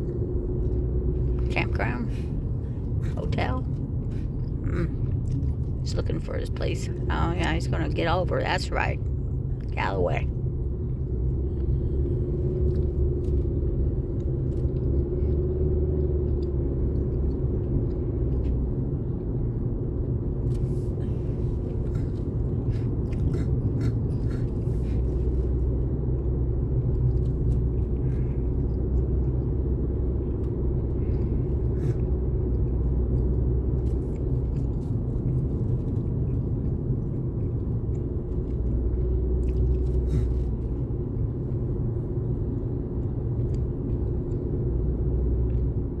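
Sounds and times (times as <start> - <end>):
vehicle engine and road rumble: 0.0 - 46.0.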